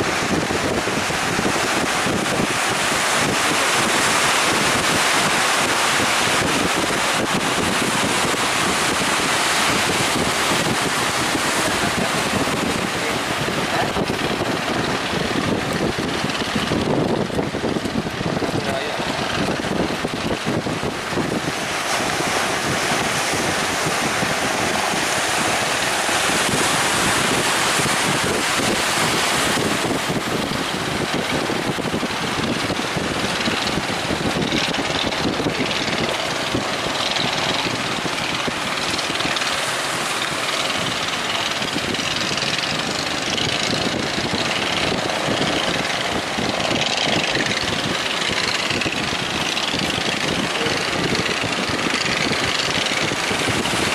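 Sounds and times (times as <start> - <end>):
boat engine running: 0.0 - 53.9
surf: 0.0 - 53.9
wind buffeting microphone: 0.0 - 53.9.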